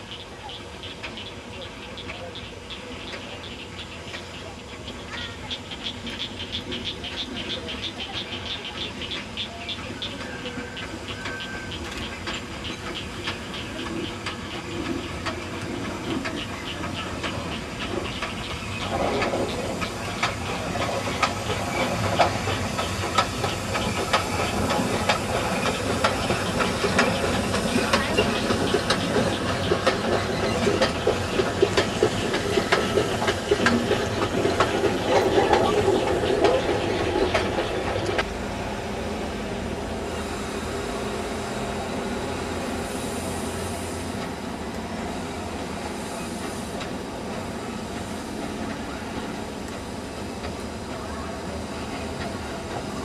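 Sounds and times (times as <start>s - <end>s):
steam hissing: 0.0s - 53.0s
steam locomotive exhaust beats: 0.0s - 53.0s.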